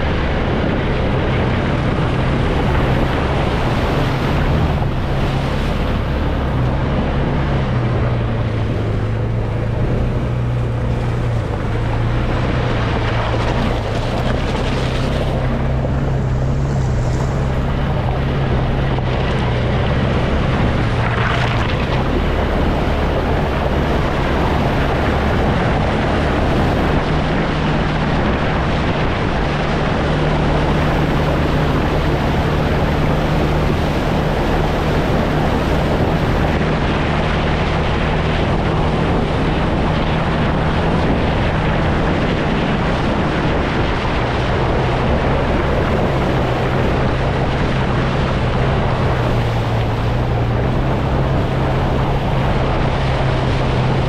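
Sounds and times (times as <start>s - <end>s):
atv engine running: 0.0s - 54.0s
wind noise: 0.0s - 54.0s.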